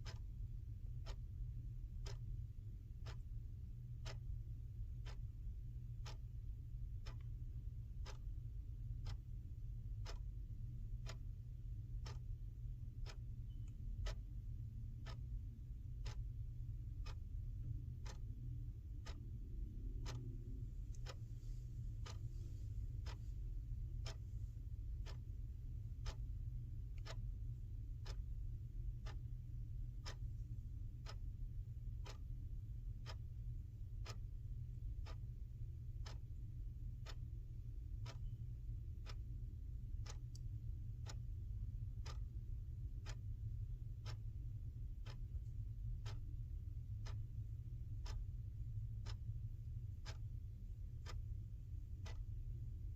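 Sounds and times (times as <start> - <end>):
clock ticking: 0.0 - 52.9
faint low hum: 0.0 - 52.9.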